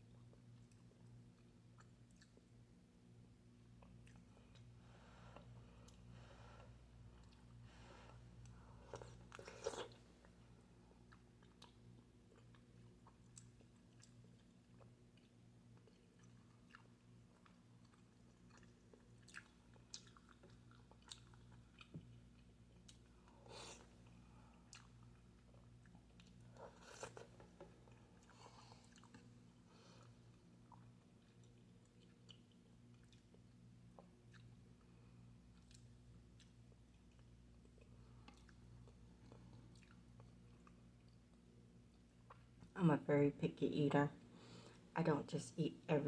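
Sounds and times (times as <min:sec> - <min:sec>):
low steady hum: 0:00.0 - 0:46.0
person chewing: 0:00.4 - 0:02.5, 0:05.4 - 0:10.4, 0:11.0 - 0:42.7.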